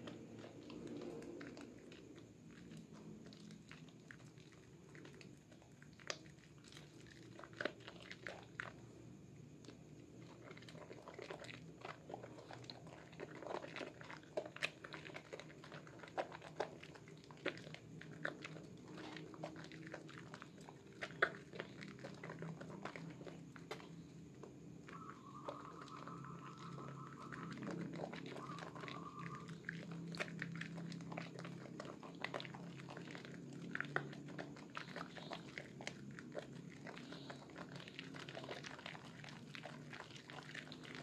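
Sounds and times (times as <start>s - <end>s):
faint low hum: 0.0s - 41.0s
soap squishing between wet hands: 0.0s - 41.0s.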